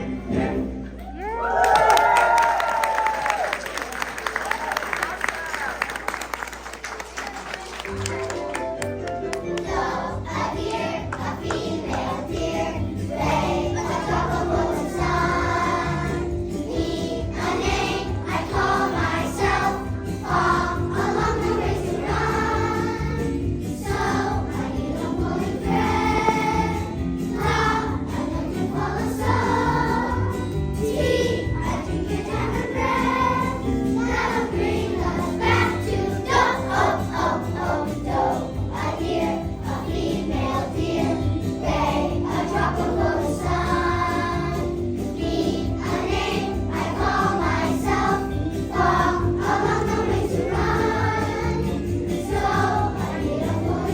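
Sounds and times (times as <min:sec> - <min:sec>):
children's choir singing: 0:00.0 - 0:01.0, 0:09.3 - 0:53.9
instrumental accompaniment: 0:07.9 - 0:53.9.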